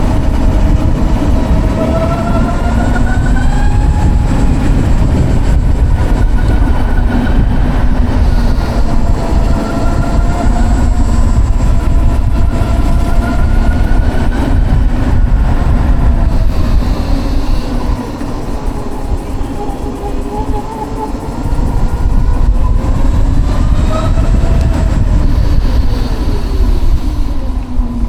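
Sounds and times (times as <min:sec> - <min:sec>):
electric motor whining: 0:00.0 - 0:28.0
wind rumble on microphone: 0:00.0 - 0:28.0.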